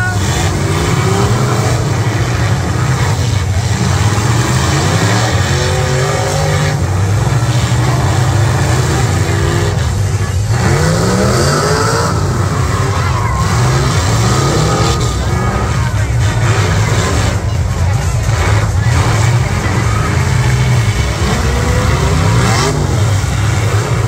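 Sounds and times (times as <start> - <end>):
car engines revving: 0.0 - 24.0
cars ramming: 0.0 - 24.0.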